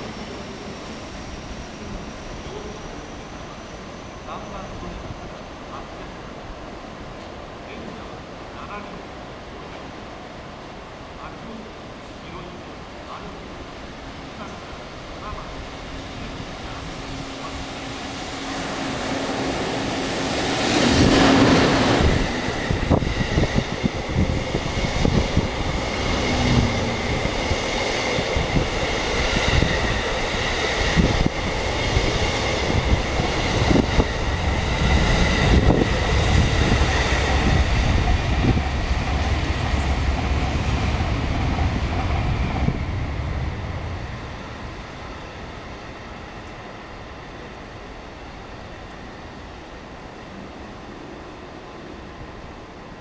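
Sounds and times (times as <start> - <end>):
electric locomotive passing: 0.0 - 53.0.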